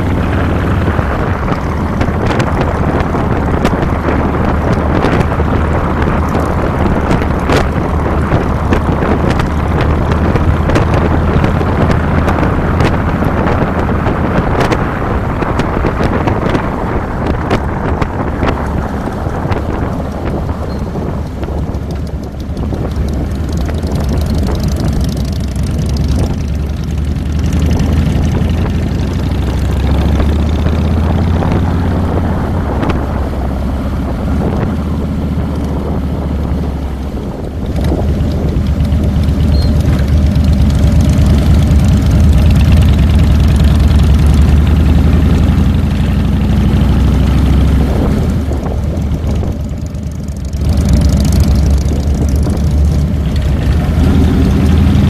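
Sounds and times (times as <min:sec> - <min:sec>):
motorcycle engine running: 0:00.0 - 0:55.0
wind noise: 0:00.0 - 0:55.0.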